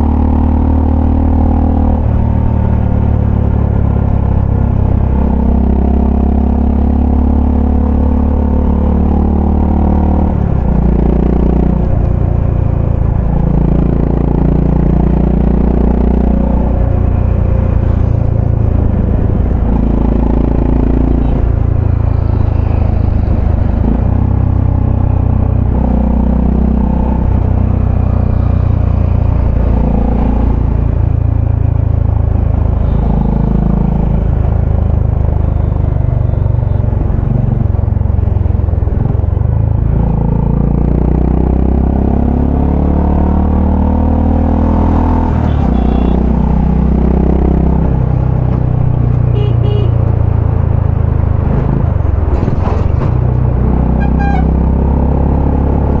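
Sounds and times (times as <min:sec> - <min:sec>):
motorcycle engine and exhaust: 0:00.0 - 0:56.0.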